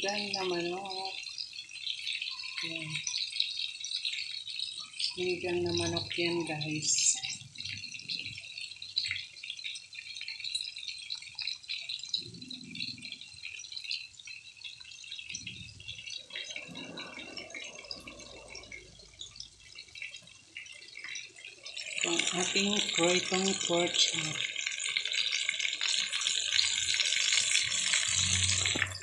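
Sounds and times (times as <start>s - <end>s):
pork chops sizzling in oil: 0.0s - 29.0s
pot of soup bubbling: 0.0s - 29.0s.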